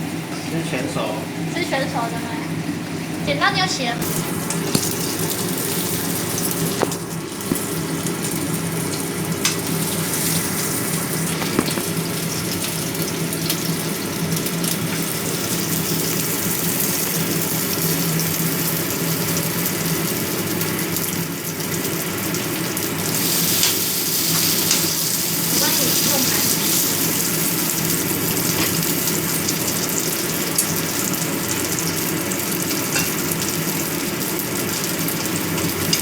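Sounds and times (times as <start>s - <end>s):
range hood fan humming: 0.0s - 36.0s.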